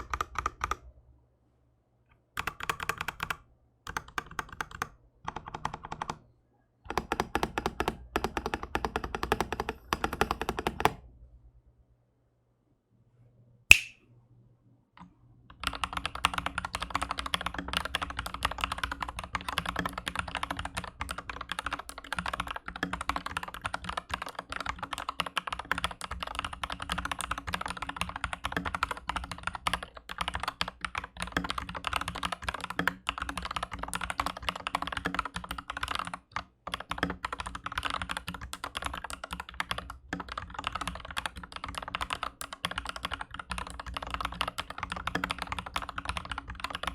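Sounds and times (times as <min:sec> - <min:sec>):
mechanical keyboard typing: 0:00.0 - 0:00.8, 0:02.4 - 0:06.2, 0:06.9 - 0:11.0, 0:15.5 - 0:46.9.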